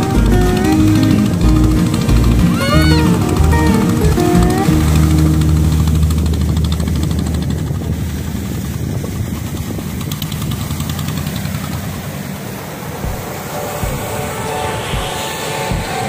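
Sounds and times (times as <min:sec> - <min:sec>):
engine running at low revs: 0:00.0 - 0:14.1
surf breaking: 0:00.0 - 0:16.0.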